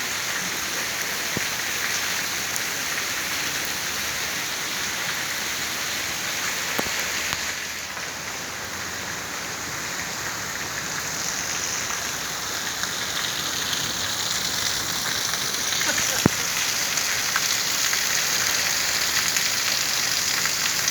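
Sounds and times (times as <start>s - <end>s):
heavy rain: 0.0s - 20.9s.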